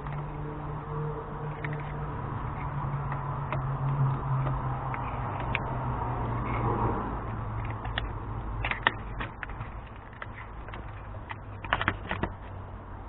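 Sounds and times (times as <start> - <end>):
low steady hum: 0.0 - 13.0
hand tools clicking and tapping: 1.4 - 5.8, 6.4 - 12.5.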